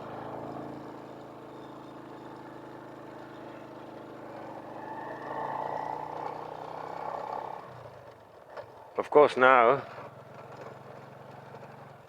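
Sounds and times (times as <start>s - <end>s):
motorcycle engine running: 0.0s - 8.9s, 9.6s - 12.0s.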